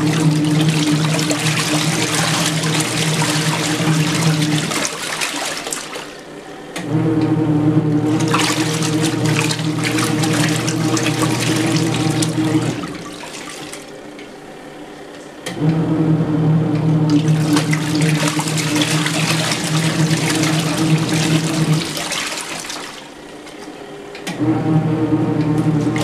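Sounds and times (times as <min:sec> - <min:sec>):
water churning and splashing: 0:00.0 - 0:14.3, 0:16.8 - 0:23.8
washer motor humming: 0:00.0 - 0:26.0.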